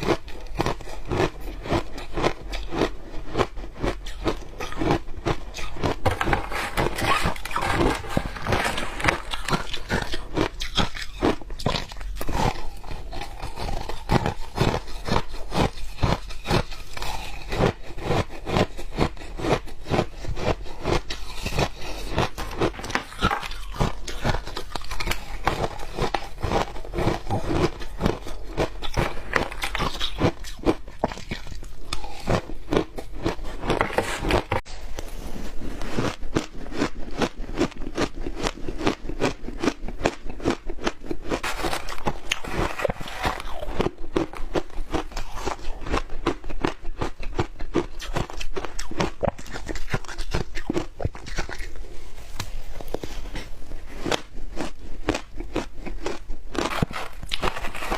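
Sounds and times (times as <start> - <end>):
ice being chewed: 0.0 - 57.9.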